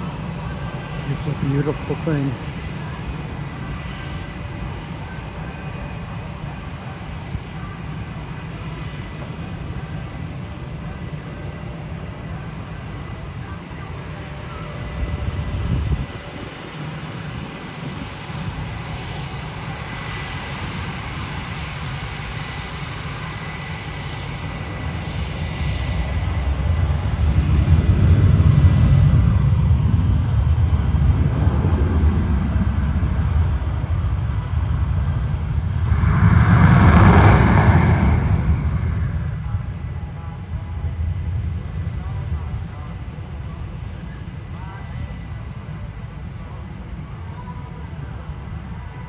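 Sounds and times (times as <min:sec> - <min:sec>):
jet engines rumbling and hissing: 0:00.0 - 0:49.0.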